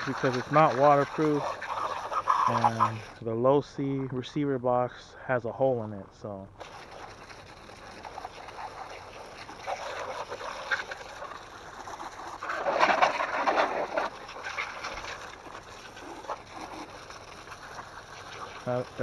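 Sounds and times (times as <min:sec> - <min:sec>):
hose water spraying and splattering: 0:00.0 - 0:04.9, 0:06.2 - 0:19.0.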